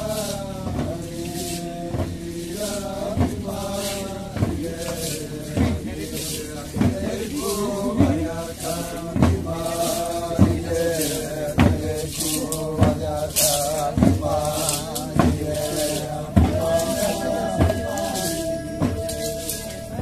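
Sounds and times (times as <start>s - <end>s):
group of voices chanting: 0.0s - 20.0s.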